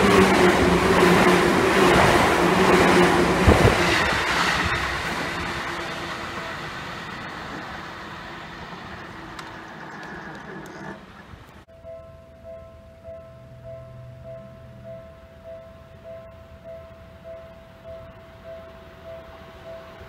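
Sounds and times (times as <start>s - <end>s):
electric train humming past: 0.0s - 20.0s.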